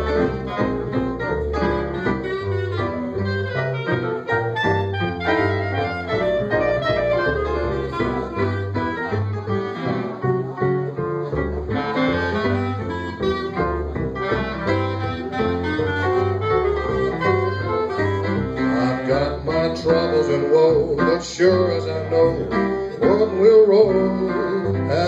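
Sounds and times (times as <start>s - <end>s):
band playing instrumental: 0.0s - 25.0s.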